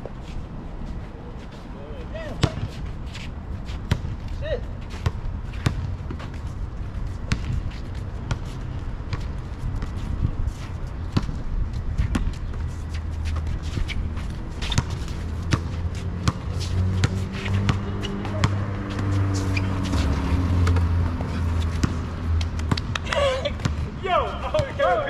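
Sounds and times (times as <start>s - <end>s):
basketball bouncing on asphalt: 2.4s - 2.7s, 3.8s - 4.3s, 4.9s - 10.2s, 10.9s - 25.0s.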